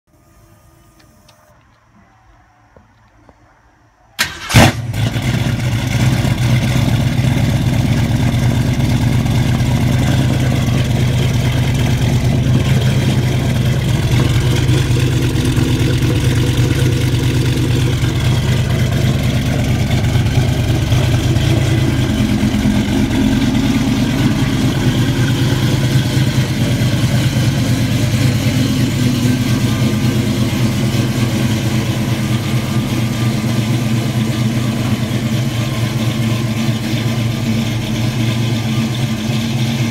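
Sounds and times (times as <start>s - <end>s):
car engine starting and idling: 4.2s - 39.9s.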